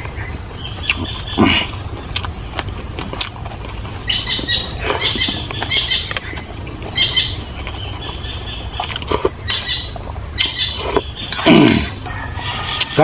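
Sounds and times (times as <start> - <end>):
bird chirping: 0.0 - 13.0
chewing and lip-smacking: 0.0 - 13.0.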